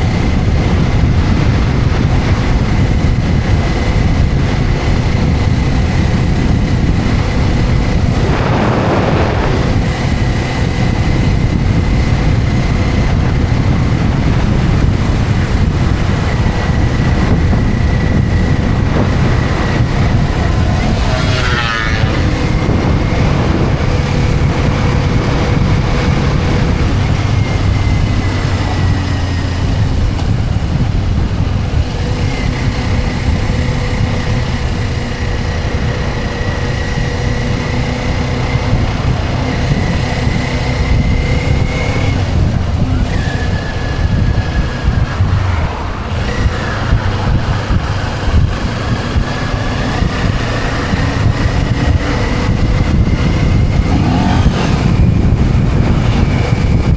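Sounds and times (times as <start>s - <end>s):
motorcycle engine cruising: 0.0s - 56.9s
wind and road noise: 0.0s - 56.9s.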